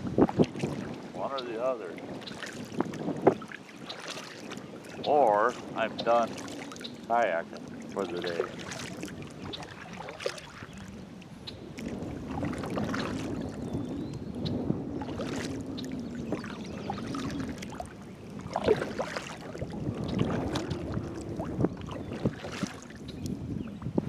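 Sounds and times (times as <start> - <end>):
paddle splashing in water: 0.0 - 23.9
water running along hull: 0.0 - 24.0.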